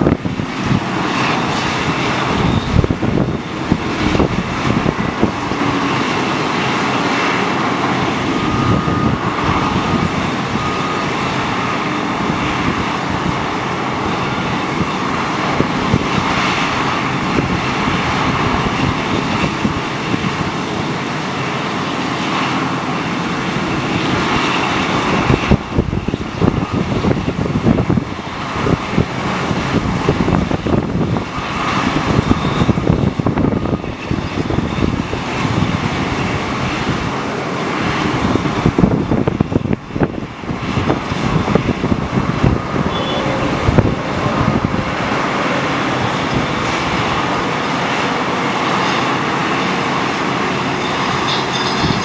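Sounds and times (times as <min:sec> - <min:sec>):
diesel engine rumbling under load: 0:00.0 - 0:52.0.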